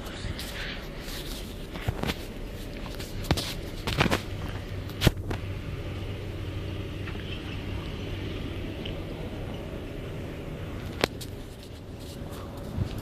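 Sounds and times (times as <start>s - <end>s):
ferry engines humming: 0.0s - 13.0s.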